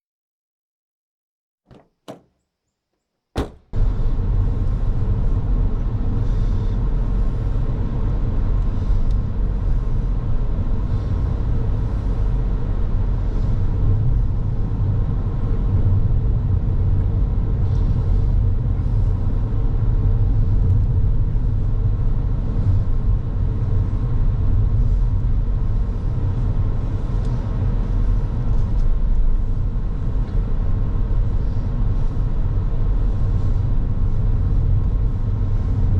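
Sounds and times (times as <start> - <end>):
car road and engine rumble: 1.7 - 2.3, 3.4 - 35.9.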